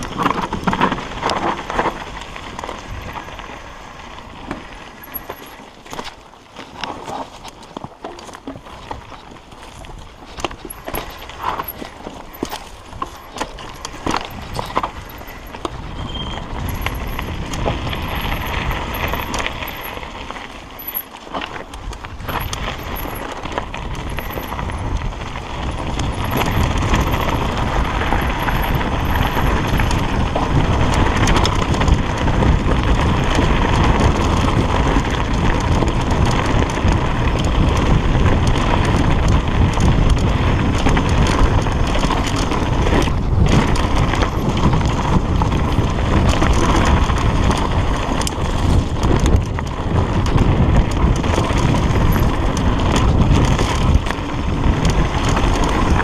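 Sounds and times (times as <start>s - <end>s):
bike rattling over bumps: 0.0s - 56.0s
bike tyres rolling over dirt: 0.0s - 56.0s.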